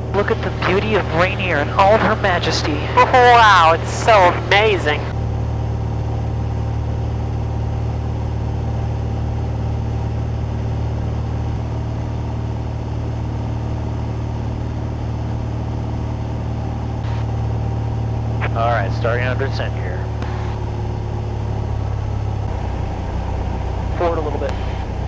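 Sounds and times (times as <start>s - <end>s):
airplane engine and propeller droning: 0.0s - 25.0s.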